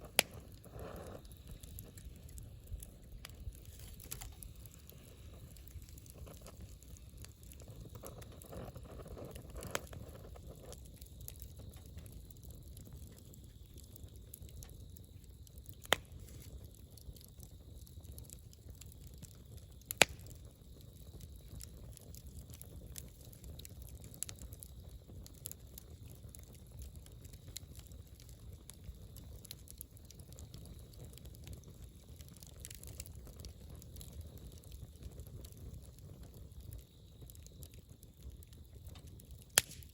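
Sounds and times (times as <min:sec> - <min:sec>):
campfire crackling: 0:00.0 - 0:39.9
sharp fire pops: 0:00.0 - 0:39.9.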